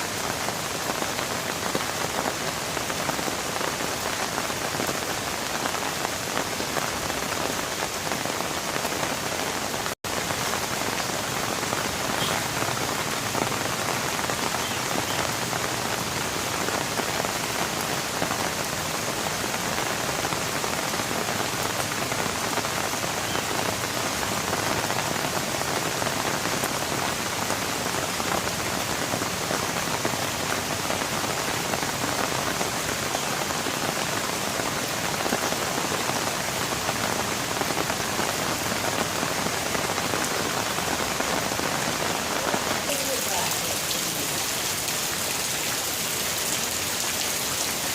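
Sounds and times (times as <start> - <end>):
steady rain patter: 0.0 - 47.9.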